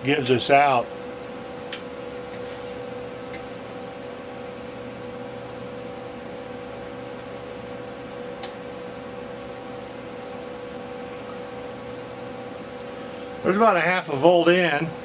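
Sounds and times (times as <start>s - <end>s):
electronics hum and hiss: 0.0s - 15.0s.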